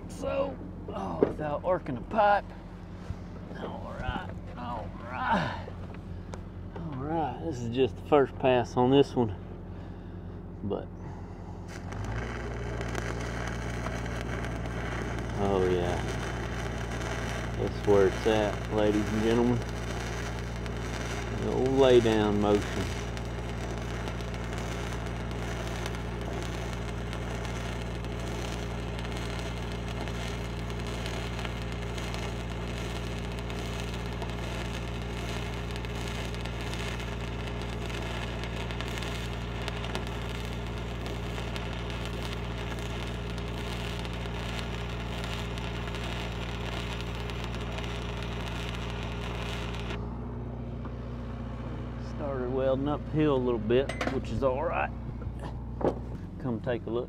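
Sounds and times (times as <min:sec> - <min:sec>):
welding machine engine hum: 0:00.0 - 0:57.0
welding arc burning: 0:03.8 - 0:06.6, 0:11.0 - 0:54.9.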